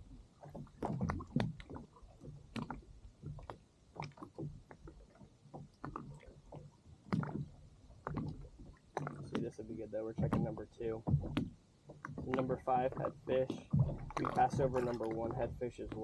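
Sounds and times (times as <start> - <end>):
waves slapping against kayak hull: 0.0 - 16.0.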